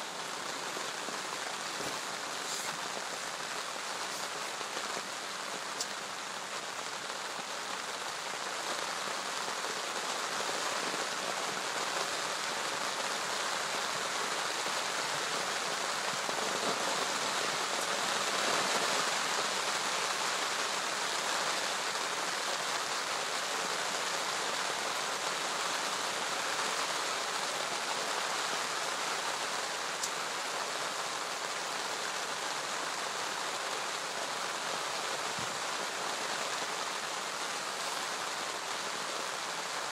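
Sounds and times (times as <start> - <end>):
rain on lake and gravel: 0.0 - 39.9.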